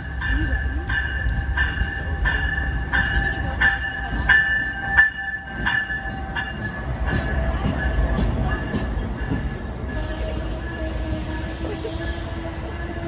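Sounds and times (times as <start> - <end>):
train bell ringing: 0.0 - 13.0
train rumbling: 0.0 - 13.0.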